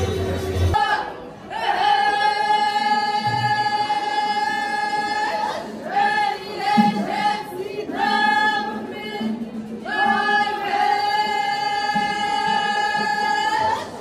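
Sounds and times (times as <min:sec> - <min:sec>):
group singing a cappella: 0:00.7 - 0:14.0.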